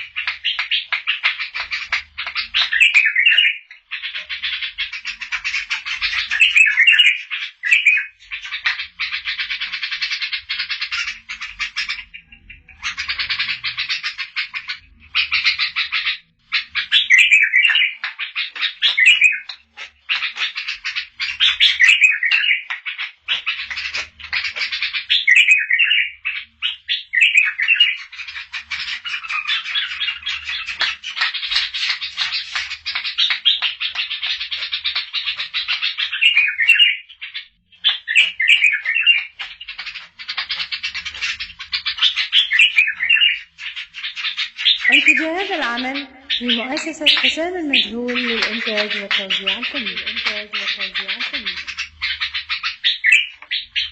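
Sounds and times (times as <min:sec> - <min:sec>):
bird chattering and warbling: 0:00.0 - 0:53.9.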